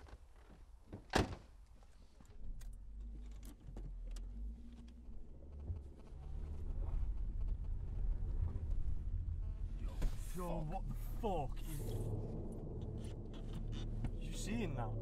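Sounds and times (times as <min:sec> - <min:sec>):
car engine starting and running: 0:02.3 - 0:15.0.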